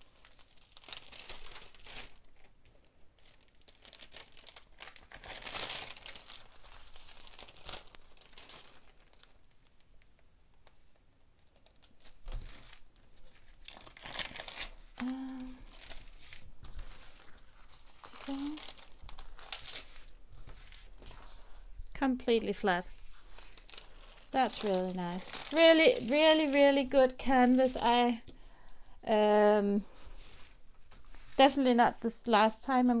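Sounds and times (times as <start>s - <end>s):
plastic film crinkling: 0.0s - 28.4s.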